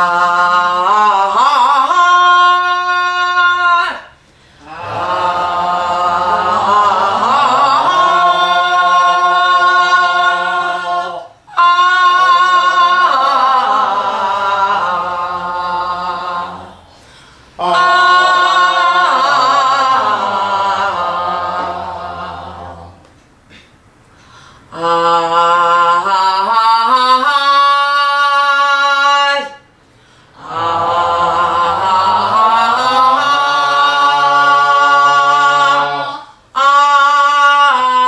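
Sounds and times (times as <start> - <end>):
women singing long vowels: 0.0 - 23.1, 24.7 - 29.7, 30.3 - 38.0.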